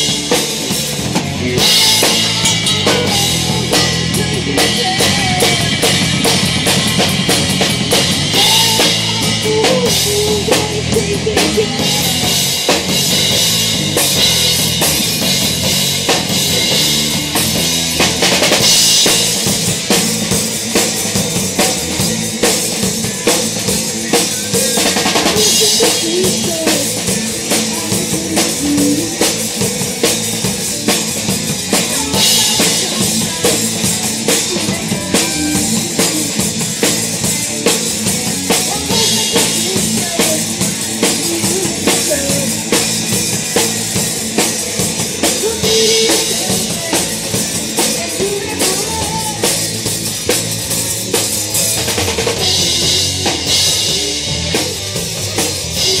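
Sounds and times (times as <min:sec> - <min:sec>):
rock drum kit beat: 0:00.0 - 0:56.0.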